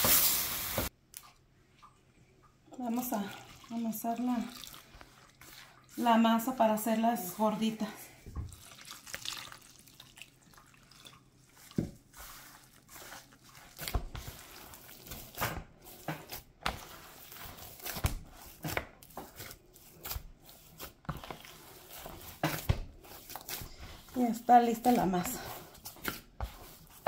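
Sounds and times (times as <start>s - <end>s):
dough squishing and slapping: 2.8s - 27.0s.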